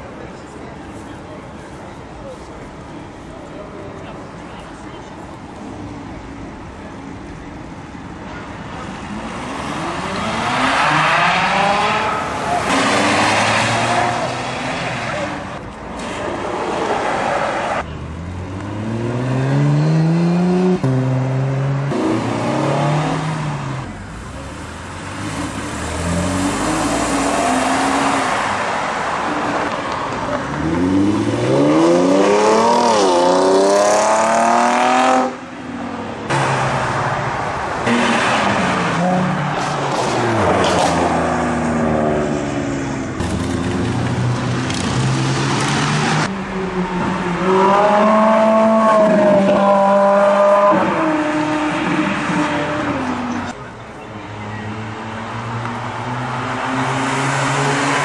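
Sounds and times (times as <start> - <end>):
cars accelerating hard: 9.0 - 53.6, 54.3 - 58.0.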